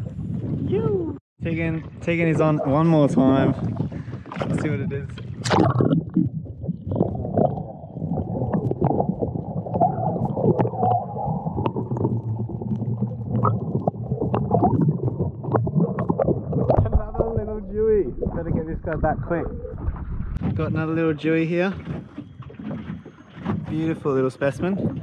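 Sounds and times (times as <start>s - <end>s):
underwater rumble and gurgle: 0.0s - 25.0s.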